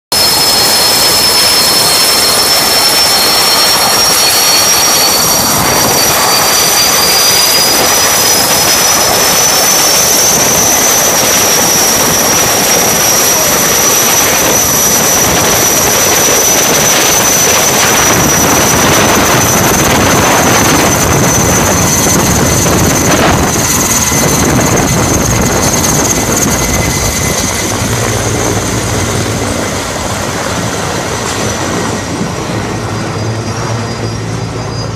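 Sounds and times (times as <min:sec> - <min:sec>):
helicopter engine and rotor: 0:00.1 - 0:34.9
helicopter turbine whine: 0:00.1 - 0:34.9.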